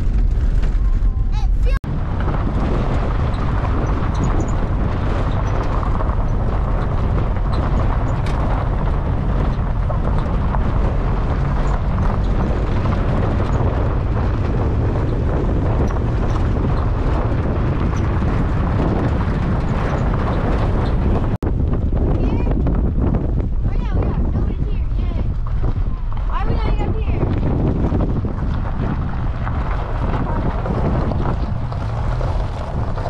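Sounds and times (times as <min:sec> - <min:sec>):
truck engine and road rumble: 0:00.0 - 0:33.0
wind noise on microphone: 0:00.0 - 0:33.0.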